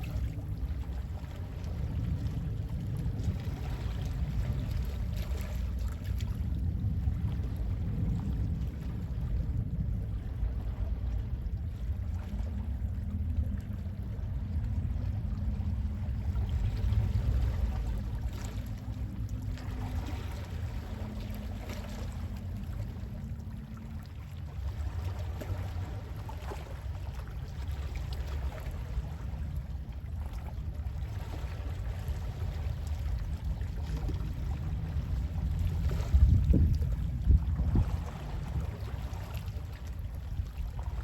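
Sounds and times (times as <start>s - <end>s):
low rumble of sea wind: 0.0s - 41.0s
sea waves lapping: 0.0s - 41.0s.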